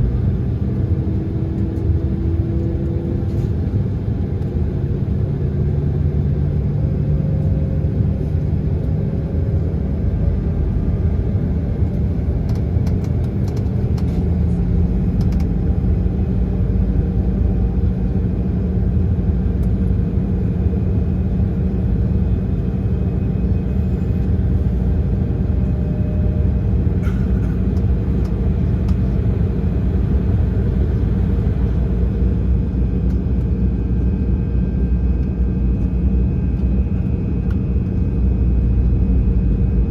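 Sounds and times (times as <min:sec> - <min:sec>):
jet engines heard in cabin: 0:00.0 - 0:39.9.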